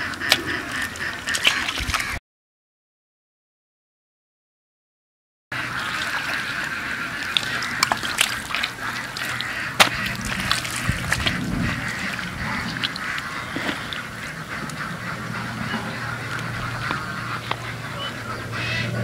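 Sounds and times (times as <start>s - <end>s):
muddy water sloshing and splashing: 0.0s - 2.2s, 5.6s - 19.0s.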